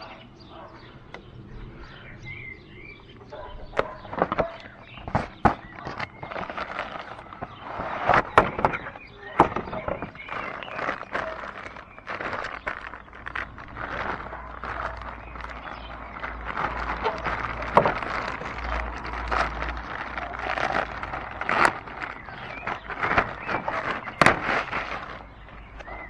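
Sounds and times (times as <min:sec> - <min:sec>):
plastic wrapping crinkling: 0:03.8 - 0:26.0.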